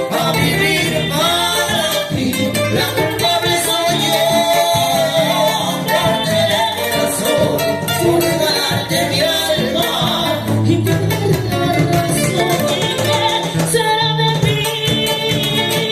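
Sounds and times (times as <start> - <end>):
person singing: 0.0 - 15.9
salsa band playing: 0.0 - 15.9.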